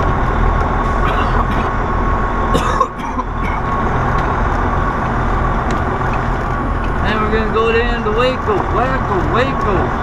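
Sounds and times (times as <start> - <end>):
road noise: 0.0 - 10.0
steady whine: 0.0 - 10.0
truck diesel engine rumble: 0.0 - 10.0.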